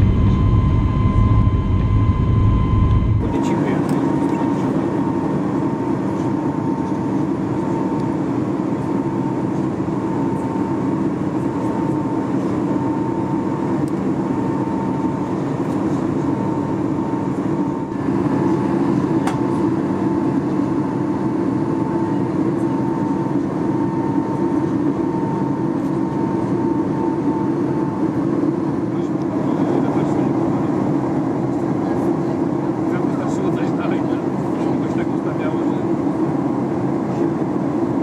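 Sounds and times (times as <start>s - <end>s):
airplane engine and airflow drone: 0.0s - 38.0s.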